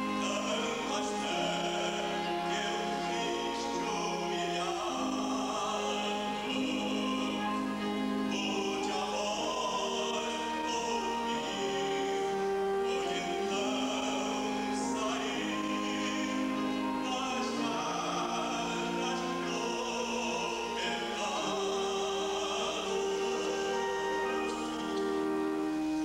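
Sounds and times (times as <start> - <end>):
man singing operatically: 0.0 - 26.0.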